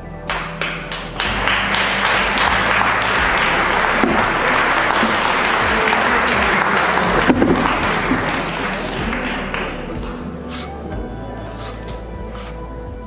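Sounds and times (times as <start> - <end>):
faint soundtrack music: 0.0 - 13.0
audience applauding: 0.2 - 10.8.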